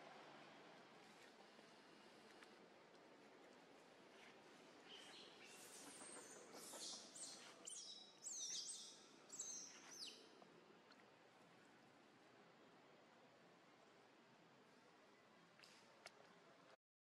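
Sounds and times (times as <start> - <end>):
soft outdoor hiss: 0.0 - 16.8.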